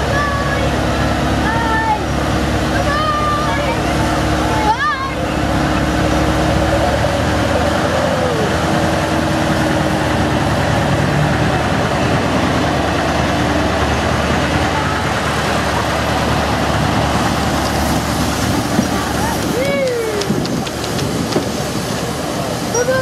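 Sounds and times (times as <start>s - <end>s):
diesel locomotive running: 0.0s - 23.0s.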